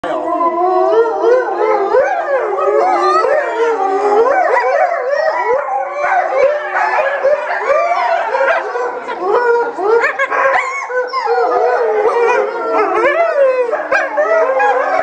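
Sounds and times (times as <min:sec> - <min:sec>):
wolves howling and yipping: 0:00.0 - 0:15.0.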